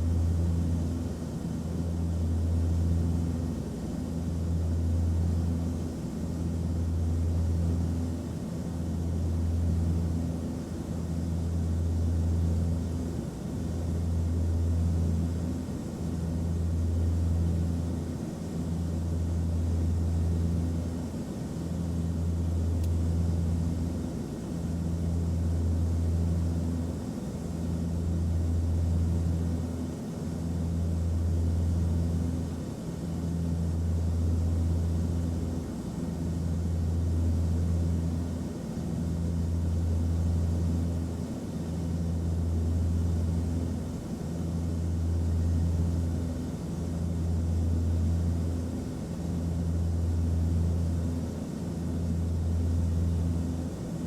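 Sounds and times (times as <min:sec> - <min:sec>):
airplane cabin drone: 0:00.0 - 0:54.0.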